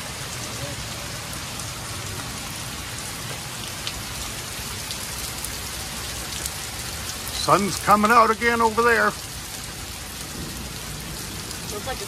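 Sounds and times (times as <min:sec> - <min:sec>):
heavy rain hissing: 0:00.0 - 0:12.0
raindrops ticking close by: 0:00.0 - 0:12.0.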